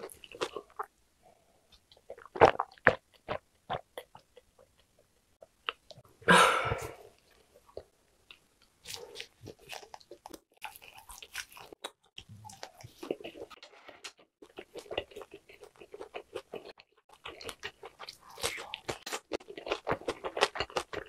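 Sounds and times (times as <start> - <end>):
wet chewing clicks: 1.7 - 6.0, 7.7 - 21.0.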